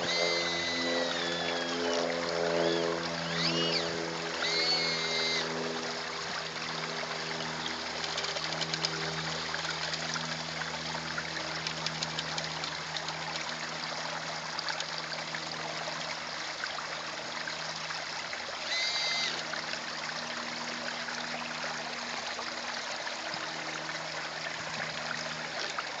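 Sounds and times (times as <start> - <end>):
water trickling in a pond: 0.0 - 26.0.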